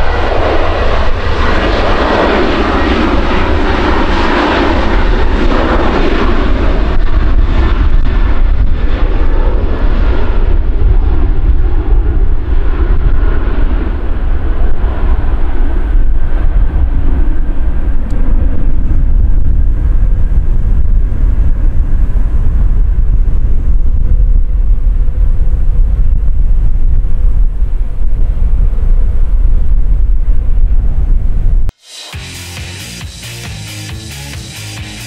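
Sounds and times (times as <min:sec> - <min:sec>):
jet engines taking off: 0:00.0 - 0:30.9, 0:31.7 - 0:35.0
wind buffeting microphone: 0:00.0 - 0:31.7.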